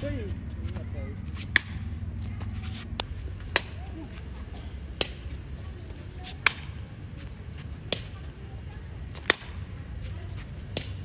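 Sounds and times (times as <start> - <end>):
foot kicking shuttlecock: 0.0 - 8.4, 9.1 - 11.0.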